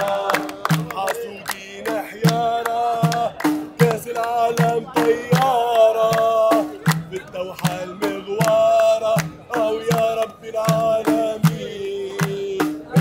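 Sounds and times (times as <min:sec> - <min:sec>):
frame drum beat: 0:00.0 - 0:13.0
hand claps: 0:00.0 - 0:13.0
man singing long notes: 0:00.0 - 0:13.0.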